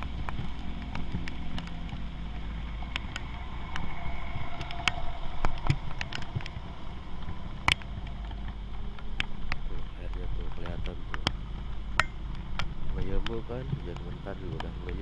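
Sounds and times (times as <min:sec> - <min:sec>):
motorcycle engine rumble: 0:00.0 - 0:15.0
raindrops ticking on gear: 0:00.0 - 0:15.0.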